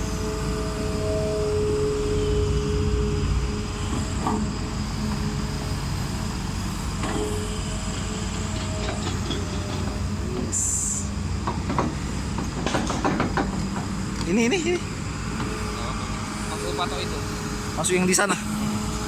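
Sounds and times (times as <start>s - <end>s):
diesel machinery engine rumble: 0.0s - 19.0s.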